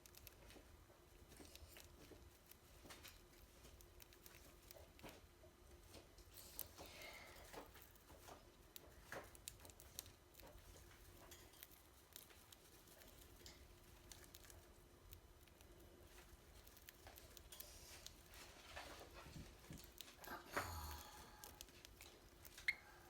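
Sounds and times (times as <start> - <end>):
bird pecking and cracking seed: 0.0 - 23.0
low steady hum: 0.0 - 23.0.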